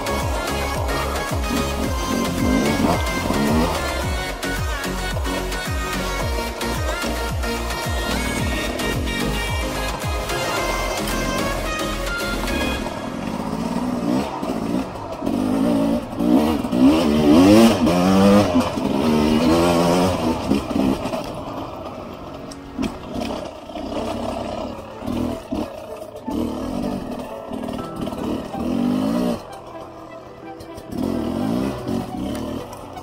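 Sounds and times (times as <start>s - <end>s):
music: 0.0s - 20.8s, 22.4s - 33.0s
motorcycle engine revving: 0.0s - 33.0s.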